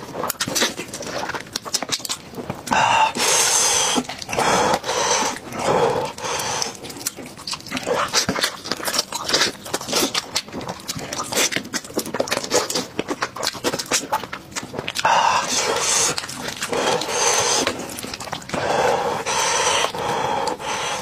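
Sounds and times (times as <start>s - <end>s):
breathy slurps: 0.0s - 21.0s
wet chewing smacks: 0.0s - 21.0s.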